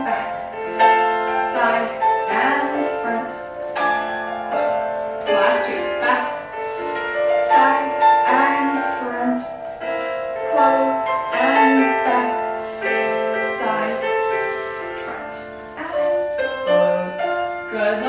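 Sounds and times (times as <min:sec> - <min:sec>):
slow classical piano music: 0:00.0 - 0:18.0.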